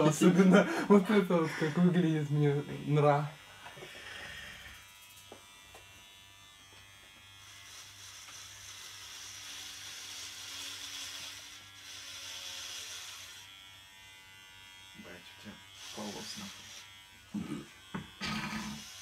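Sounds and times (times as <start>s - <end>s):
electric hair clippers buzzing: 0.0s - 19.0s.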